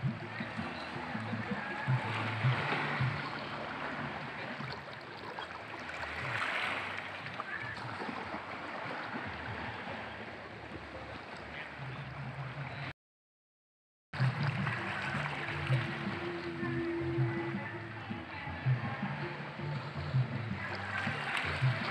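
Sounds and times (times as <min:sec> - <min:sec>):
small waves lapping on rocks: 0:00.0 - 0:12.6, 0:14.2 - 0:21.9.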